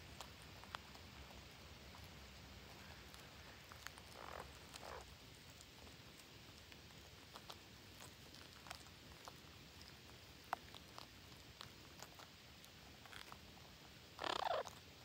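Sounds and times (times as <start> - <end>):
birds pecking at soil and wood: 0.0 - 15.0.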